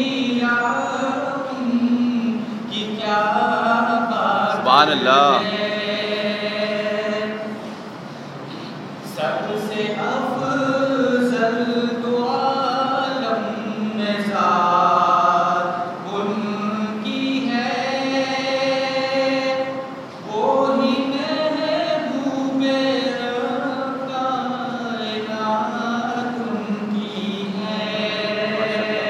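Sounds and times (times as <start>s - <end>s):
man singing unaccompanied: 0.0s - 7.6s, 9.0s - 29.0s.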